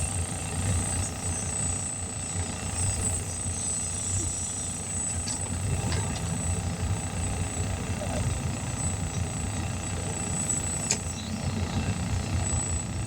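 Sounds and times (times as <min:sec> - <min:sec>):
air compressor running: 0:00.0 - 0:13.0.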